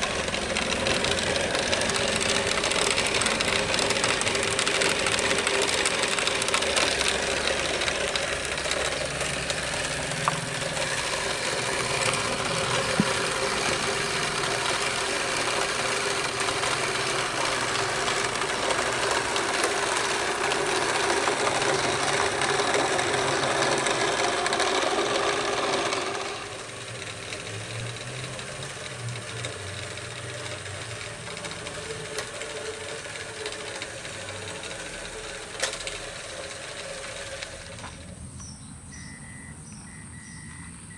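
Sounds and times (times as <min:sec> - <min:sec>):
toy motor whirring gears: 0:00.0 - 0:38.1.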